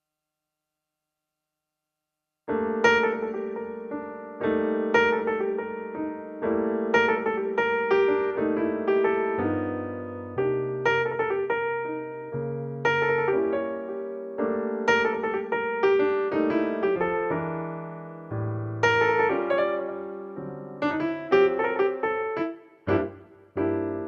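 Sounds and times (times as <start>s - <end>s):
piano music: 2.5s - 24.0s.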